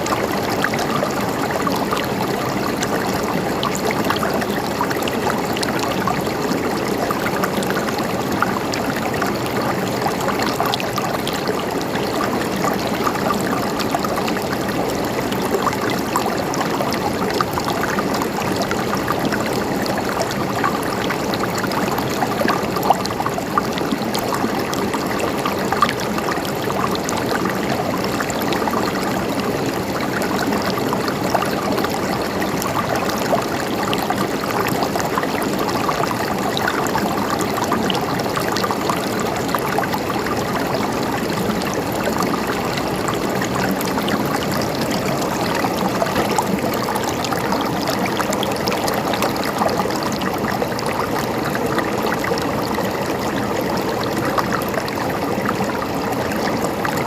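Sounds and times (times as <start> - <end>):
river water rushing over rocks: 0.0 - 57.0.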